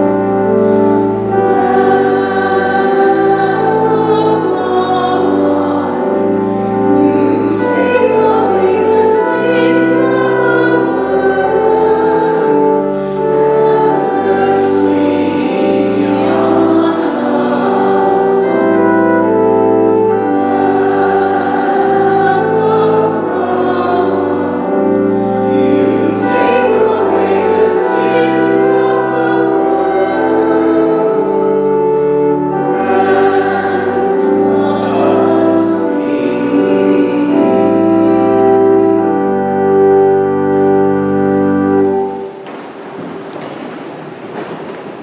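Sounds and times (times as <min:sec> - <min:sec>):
church organ: 0:00.0 - 0:45.0
voices singing: 0:00.0 - 0:45.0.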